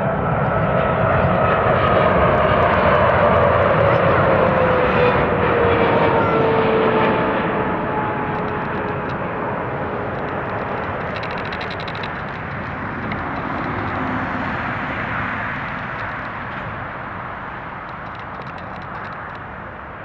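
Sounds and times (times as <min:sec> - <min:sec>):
jet airliner engine roar: 0:00.0 - 0:20.0.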